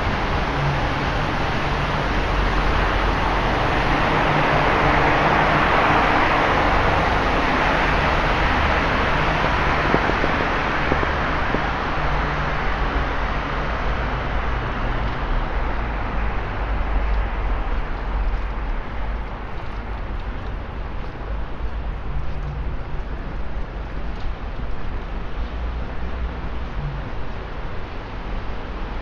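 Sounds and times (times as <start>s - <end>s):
low engine rumble: 0.0s - 29.0s
tyres hissing on wet road: 0.0s - 29.0s.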